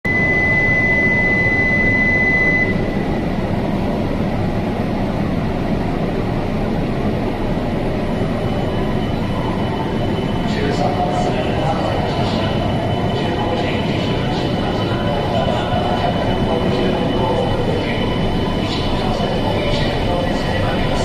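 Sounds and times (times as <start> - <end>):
train humming at platform: 0.1 - 21.0.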